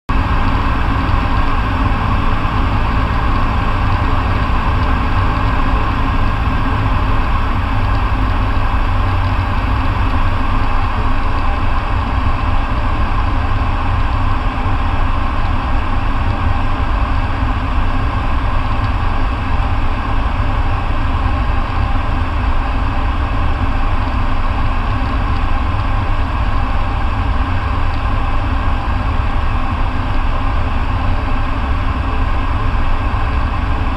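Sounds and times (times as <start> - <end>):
aircraft engine and propeller drone: 0.1 - 33.9
low hum: 0.1 - 33.9.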